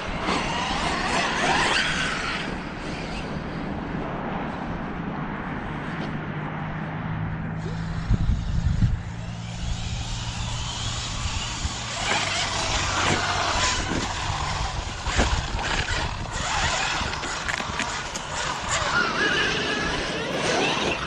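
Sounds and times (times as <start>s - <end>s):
rc truck motor surging: 0.0s - 3.8s, 7.6s - 21.0s.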